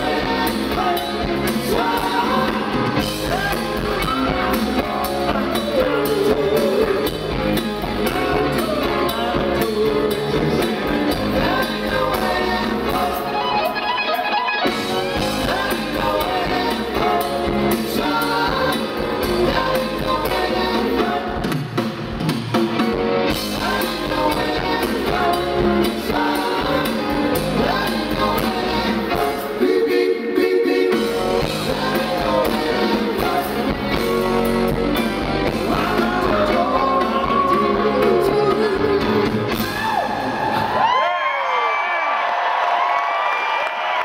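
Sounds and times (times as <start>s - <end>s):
lead vocals: 0.0s - 22.4s, 23.3s - 41.0s
bass guitar: 0.0s - 29.6s, 30.8s - 40.9s
electric guitar: 0.0s - 29.6s, 31.0s - 41.0s
drums: 0.0s - 41.3s.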